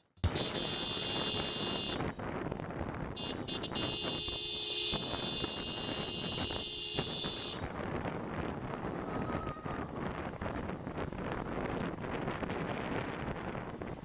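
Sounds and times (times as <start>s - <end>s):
wind and motorcycle road noise: 0.0s - 14.0s.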